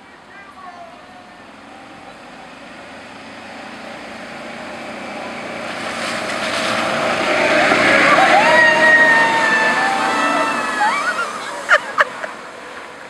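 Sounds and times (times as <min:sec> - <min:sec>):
golf cart tyres hissing on wet pavement: 0:00.1 - 0:13.0.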